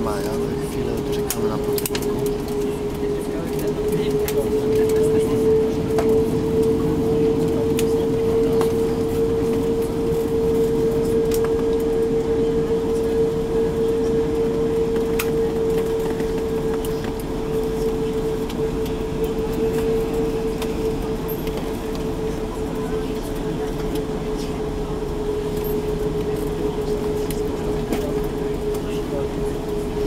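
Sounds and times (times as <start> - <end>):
low engine rumble: 0.0 - 30.0
steady cabin hum: 0.0 - 30.0.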